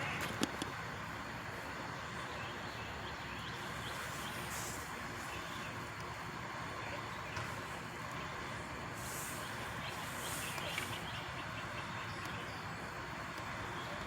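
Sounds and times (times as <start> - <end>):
outdoor noise: 0.0 - 14.0
truck engine running: 0.0 - 14.0.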